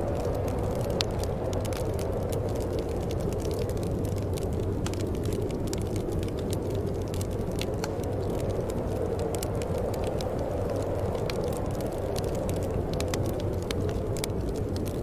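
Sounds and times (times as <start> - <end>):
fireplace wood crackling and popping: 0.0 - 15.0.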